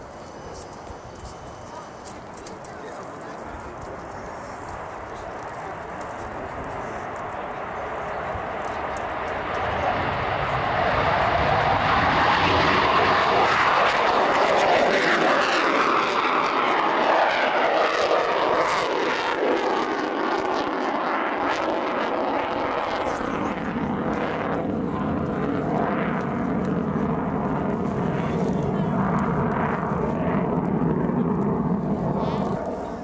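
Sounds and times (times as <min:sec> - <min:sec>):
jet fighter passing low: 0:00.0 - 0:33.0.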